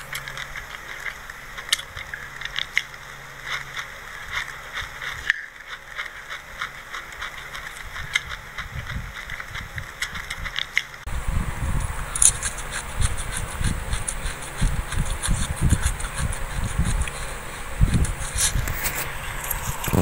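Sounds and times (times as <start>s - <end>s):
chewing seeds with crackles: 0.0s - 20.0s.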